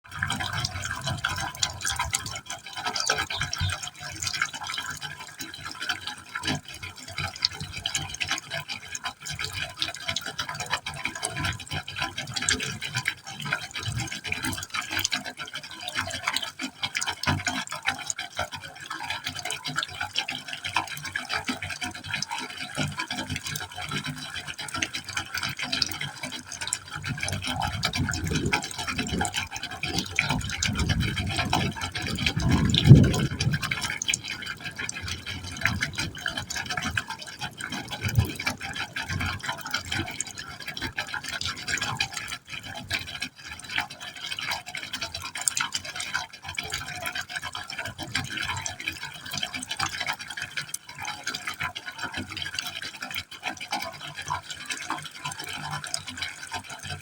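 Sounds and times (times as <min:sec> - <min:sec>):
water splashing and gurgling in pipe: 0:00.0 - 0:57.0.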